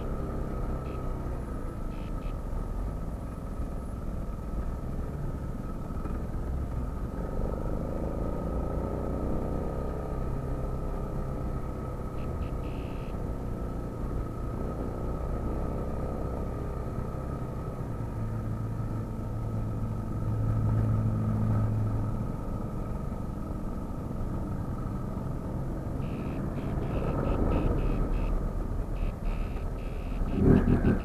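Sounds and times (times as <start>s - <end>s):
passing cars rumble: 0.0s - 31.0s
vehicle engine drone: 0.0s - 31.0s.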